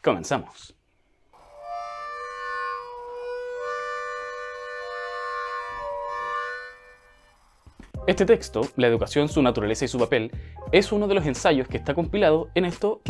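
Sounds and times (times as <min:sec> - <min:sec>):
instrumental music with held notes: 0:01.4 - 0:13.0.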